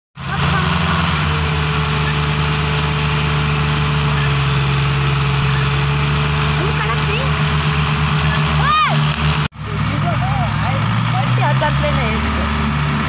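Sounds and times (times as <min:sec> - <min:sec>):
diesel tractor engines running: 0:00.2 - 0:13.0.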